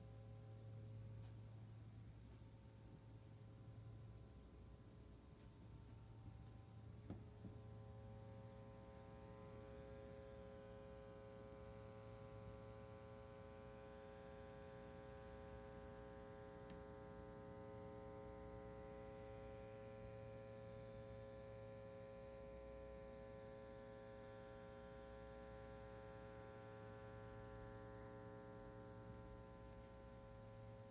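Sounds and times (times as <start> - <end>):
faint mains hum: 0.0 - 30.9.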